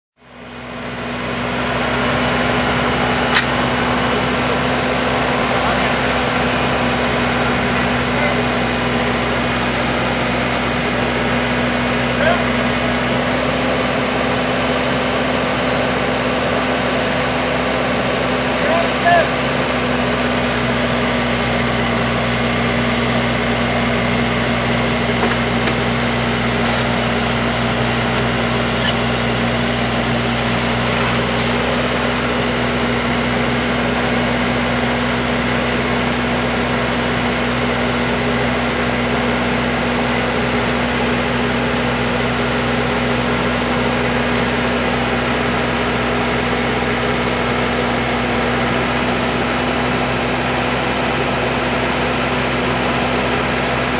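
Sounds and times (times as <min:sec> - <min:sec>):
diesel engine running: 0:00.2 - 0:53.9.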